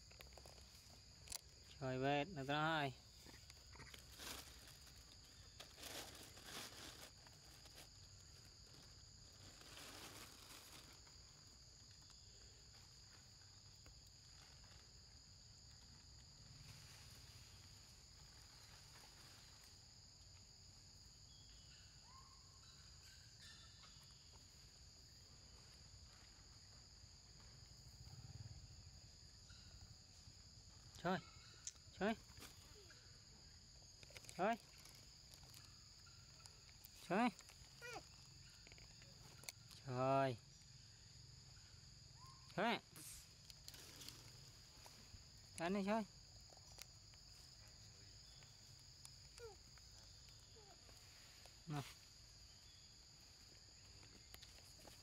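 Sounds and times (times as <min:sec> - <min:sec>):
faint insect drone: 0:00.0 - 0:55.0.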